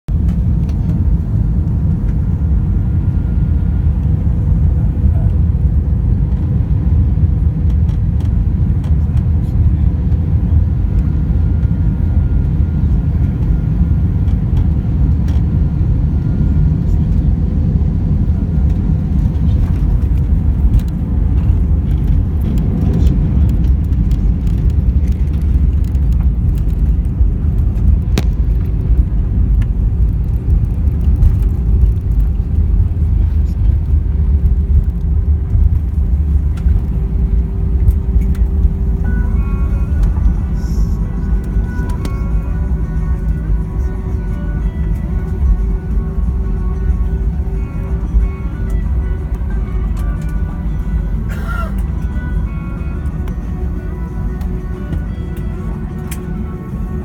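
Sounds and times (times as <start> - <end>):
airliner engines rumbling: 0.1 - 57.0
faint steady whine: 8.2 - 57.0.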